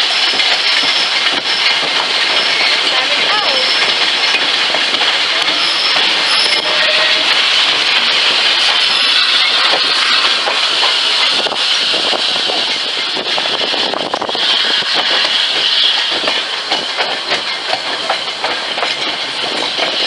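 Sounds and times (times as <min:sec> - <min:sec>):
rattles and clicks: 0:00.0 - 0:20.0
train wheels rumbling on rail: 0:00.0 - 0:20.0.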